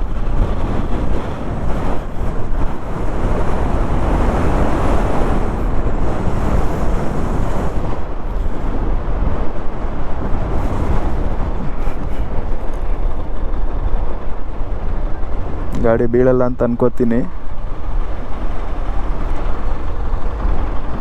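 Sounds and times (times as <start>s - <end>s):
motorcycle engine and tyre noise: 0.0s - 21.0s
wind buffeting microphone: 0.0s - 21.0s.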